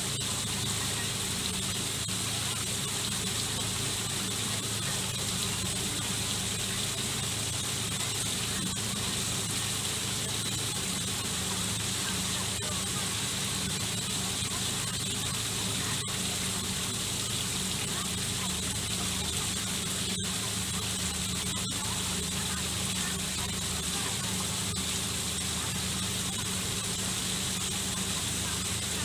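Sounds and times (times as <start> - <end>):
low steady hum: 0.0 - 29.0
waterfall splashing into pond: 0.0 - 29.0.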